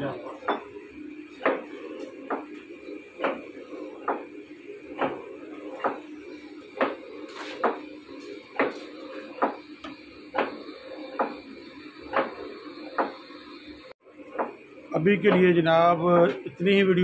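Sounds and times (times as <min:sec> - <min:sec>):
lathe machine hum: 0:00.0 - 0:17.0.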